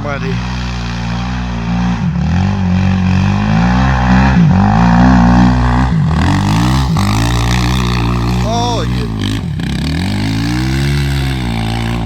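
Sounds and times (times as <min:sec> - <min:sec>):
quad engine revving in mud: 0:00.0 - 0:12.0.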